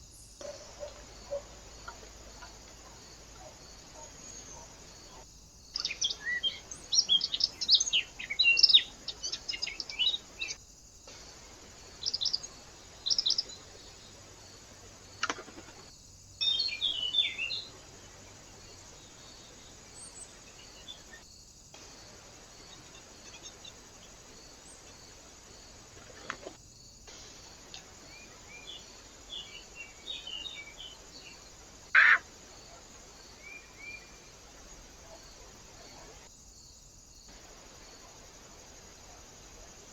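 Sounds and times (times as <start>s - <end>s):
small birds chirping: 0.0s - 36.3s
faint microphone hiss: 0.0s - 39.9s.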